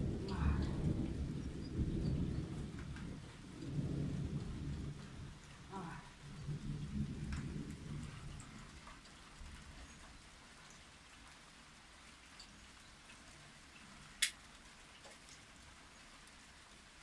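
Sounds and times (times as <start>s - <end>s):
light rain hiss: 0.0s - 17.0s
rain drops ticking: 0.0s - 17.0s.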